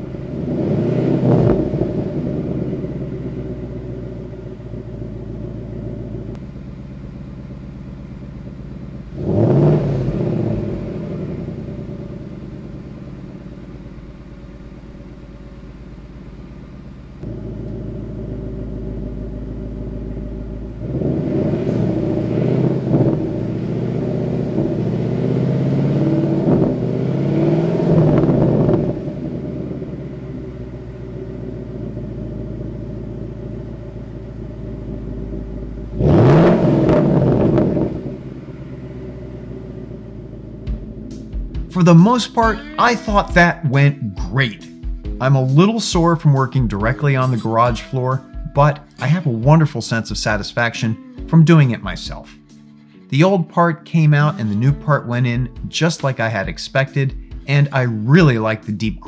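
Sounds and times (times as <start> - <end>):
car engine idling: 0.0 - 59.0
car engine revving: 0.0 - 59.0.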